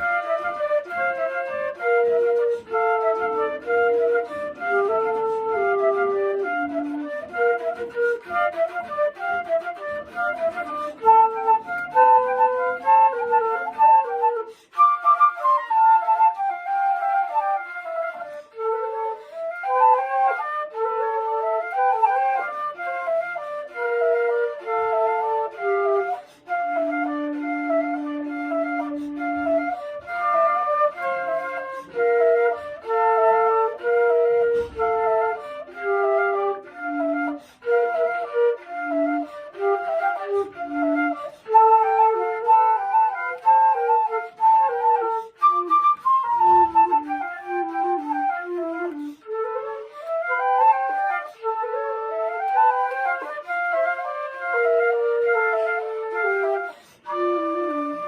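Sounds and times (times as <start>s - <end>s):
flute ensemble playing: 0.0s - 58.0s.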